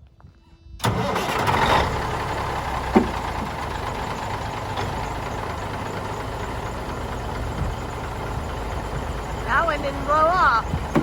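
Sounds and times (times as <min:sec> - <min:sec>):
large diesel engine idling: 0:00.8 - 0:11.0.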